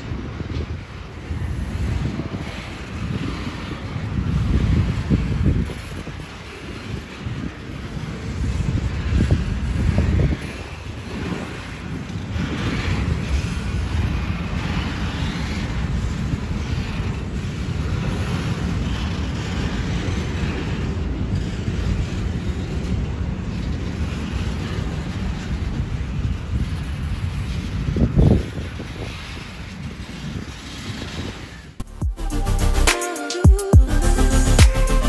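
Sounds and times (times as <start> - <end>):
freight train rolling past: 0.0 - 35.0.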